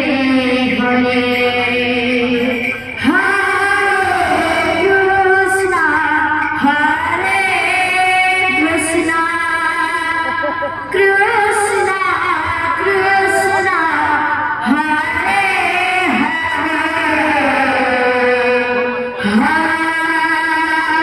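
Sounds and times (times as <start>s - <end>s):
women singing devotional song: 0.0s - 21.0s.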